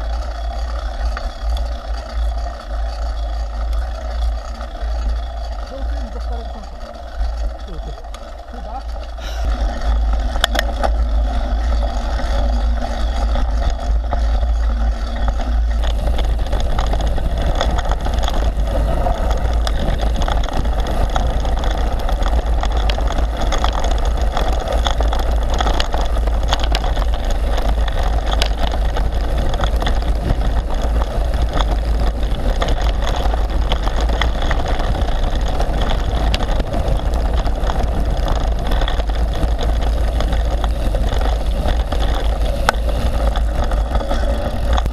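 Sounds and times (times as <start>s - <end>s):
bike clattering and rattling: 0.0s - 44.9s
low rumble of bike tyres: 0.0s - 44.9s
wind buffeting microphone: 0.0s - 44.9s.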